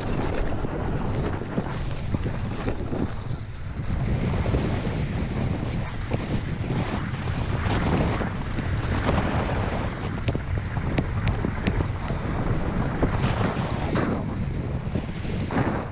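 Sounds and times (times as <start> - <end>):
snowboard sliding over snow: 0.0 - 15.9
wind buffeting microphone: 0.0 - 15.9.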